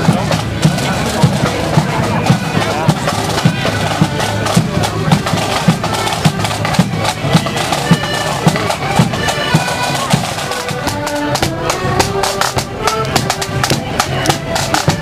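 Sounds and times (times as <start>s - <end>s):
drum beating: 0.0s - 15.0s
marching band playing: 0.0s - 15.0s.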